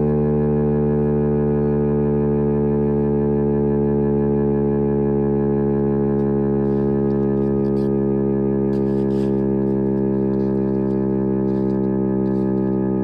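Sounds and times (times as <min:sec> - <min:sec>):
warning siren steady tone: 0:00.0 - 0:13.0.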